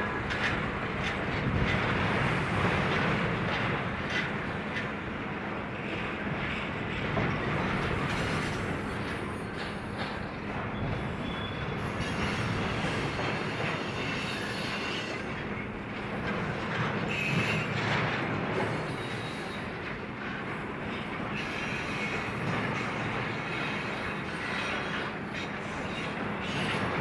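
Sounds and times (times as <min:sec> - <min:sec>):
faint train wheel squeals: 0:00.0 - 0:27.0
freight train rumbling past: 0:00.0 - 0:27.0.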